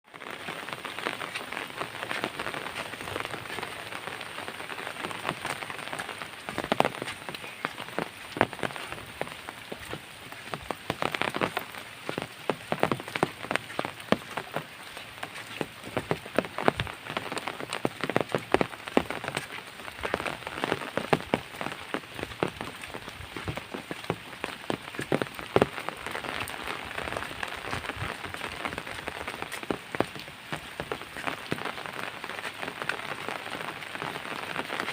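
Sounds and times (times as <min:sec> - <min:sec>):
soft rain falling: 0:00.0 - 0:34.9
sharp raindrop impacts: 0:00.1 - 0:34.9.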